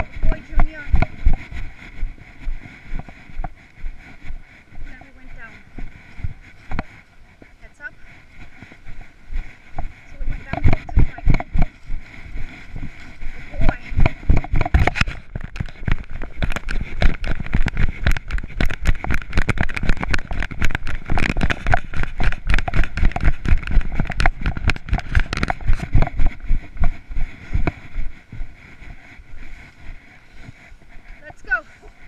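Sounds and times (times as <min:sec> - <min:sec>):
footsteps: 0:00.0 - 0:32.0.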